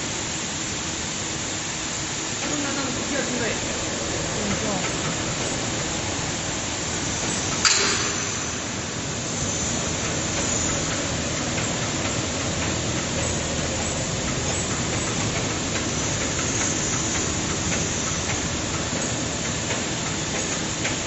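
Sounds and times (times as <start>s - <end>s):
workshop machine hiss and hum: 0.0s - 21.0s.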